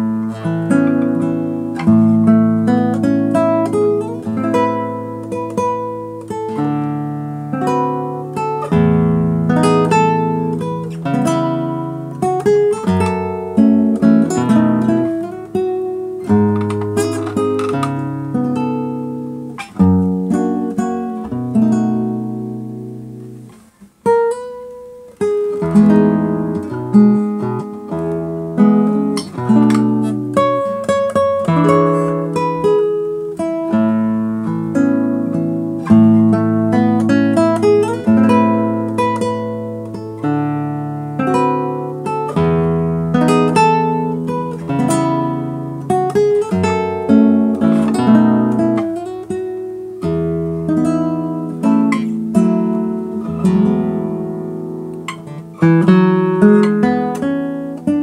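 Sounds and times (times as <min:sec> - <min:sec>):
classical guitar fingerstyle: 0:00.0 - 0:58.0.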